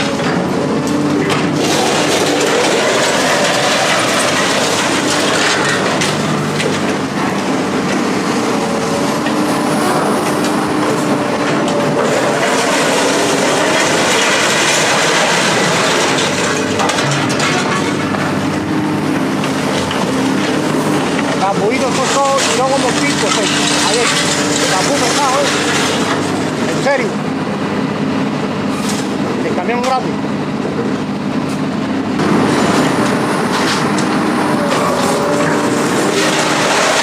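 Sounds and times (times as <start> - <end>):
machine running with rattling: 0.0 - 37.0.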